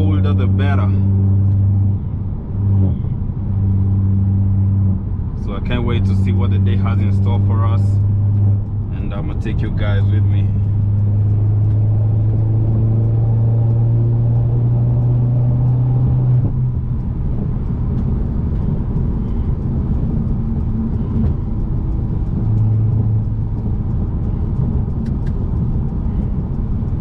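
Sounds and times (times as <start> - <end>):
car engine droning: 0.0 - 27.0
road rumble: 0.0 - 27.0.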